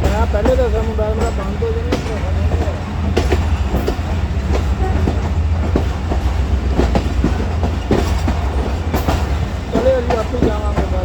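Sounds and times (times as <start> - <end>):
train low rumble: 0.0 - 11.0
train wheels clacking: 0.0 - 11.0.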